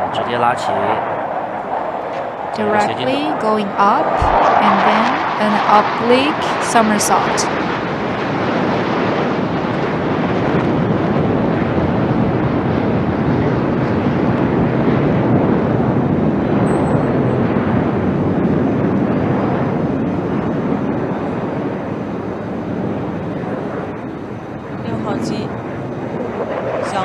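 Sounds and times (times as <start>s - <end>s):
jet fighter engines roaring: 0.0s - 27.0s.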